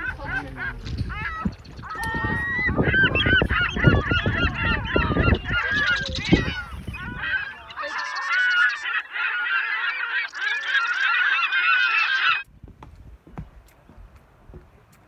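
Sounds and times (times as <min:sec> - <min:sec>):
geese honking: 0:00.0 - 0:12.5.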